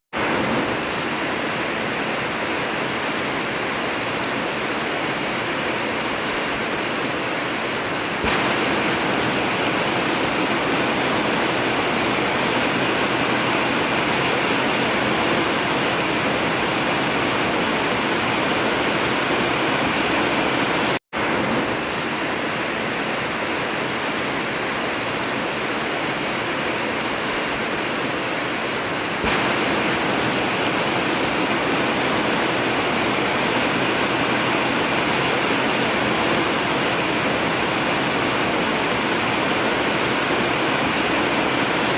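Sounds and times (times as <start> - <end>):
heavy rain drumming on a tin roof: 0.1 - 41.9.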